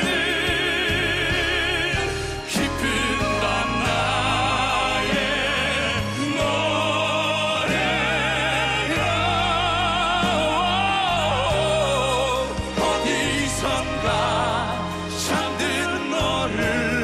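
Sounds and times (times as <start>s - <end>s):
instrumental accompaniment: 0.0s - 17.0s
men singing operatic ballad: 0.0s - 17.0s.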